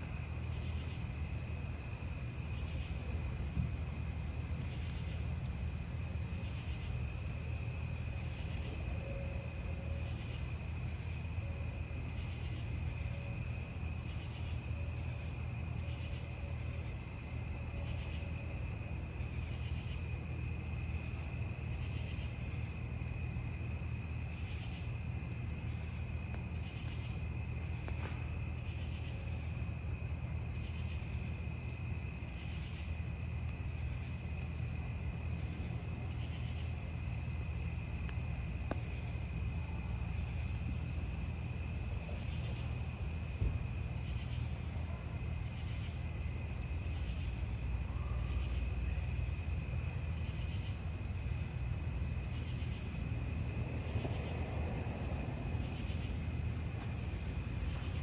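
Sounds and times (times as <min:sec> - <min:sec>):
crickets chirping: 0:00.0 - 0:58.0
fire crackle: 0:00.0 - 0:58.0
wood fire burning: 0:00.0 - 0:58.0.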